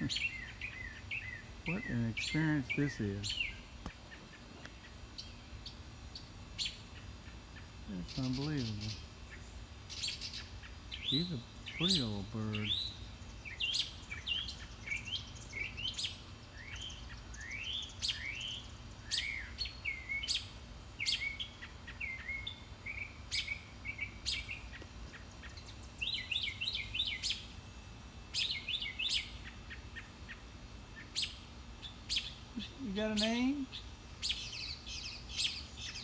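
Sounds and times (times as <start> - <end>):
songbird chirps and trills: 0.0 - 36.0.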